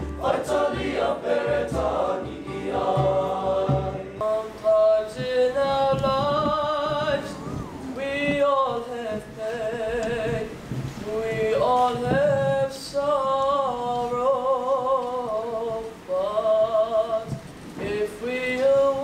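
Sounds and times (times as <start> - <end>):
boys' choir singing unaccompanied: 0.0 - 19.0.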